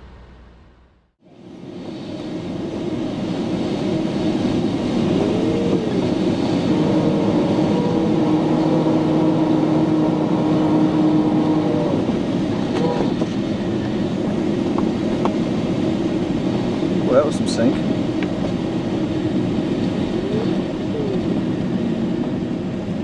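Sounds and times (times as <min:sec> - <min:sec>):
rushing airflow in cockpit: 0:00.0 - 0:23.0.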